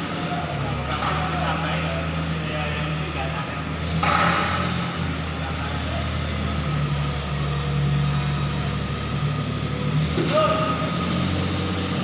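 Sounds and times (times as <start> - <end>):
small vehicle engine humming: 0.0 - 12.0.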